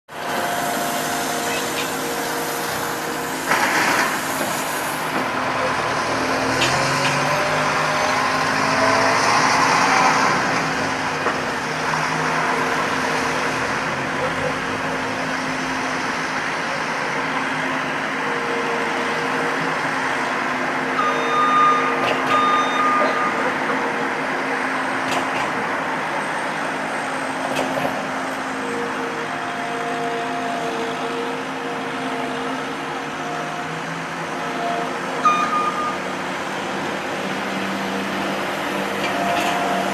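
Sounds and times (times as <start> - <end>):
road traffic passing: 0.1 - 39.9.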